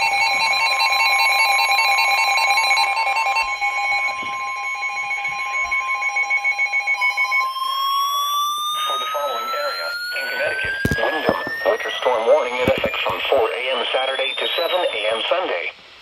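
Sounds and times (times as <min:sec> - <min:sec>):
electronic two-tone alarm: 0:00.0 - 0:15.4.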